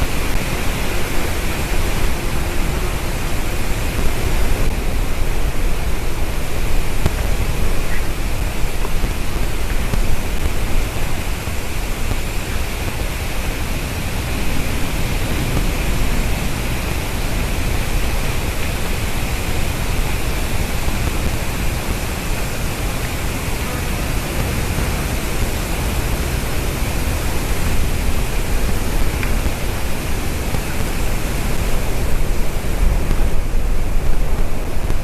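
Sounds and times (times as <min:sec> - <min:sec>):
faint high hiss: 0:00.0 - 0:35.0
loud rushing noise: 0:00.0 - 0:35.0.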